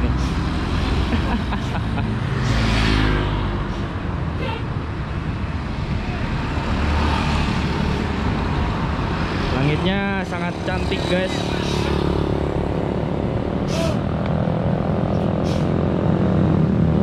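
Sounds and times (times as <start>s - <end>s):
scooters and van passing: 0.0s - 17.0s.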